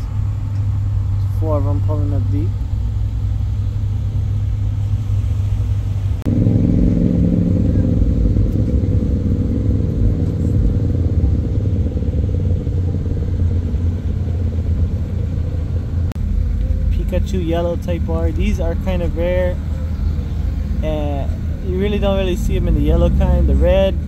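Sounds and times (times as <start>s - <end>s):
car engines running at low speed: 0.0s - 24.0s
close car engine running: 0.0s - 24.0s.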